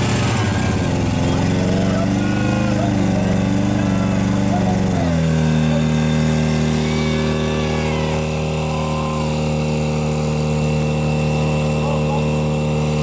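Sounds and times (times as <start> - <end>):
pump engine running at high revs: 0.0 - 13.0.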